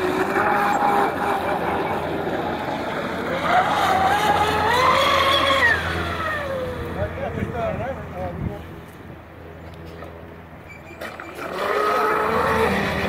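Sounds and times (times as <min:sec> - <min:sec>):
electric boat motor whine: 0:00.0 - 0:13.0.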